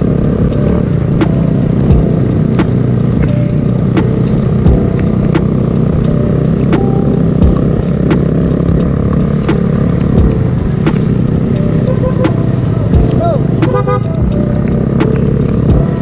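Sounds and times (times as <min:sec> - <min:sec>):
motor scooter engine: 0:00.0 - 0:16.0
road noise: 0:00.0 - 0:16.0.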